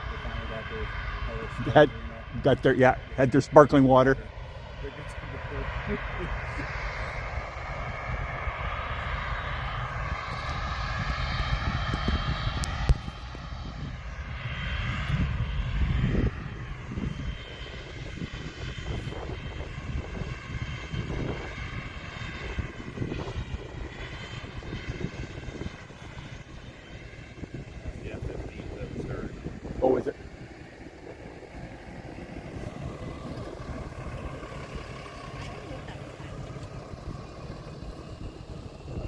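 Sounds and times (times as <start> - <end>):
jet engines whining and rumbling: 0.0 - 39.0.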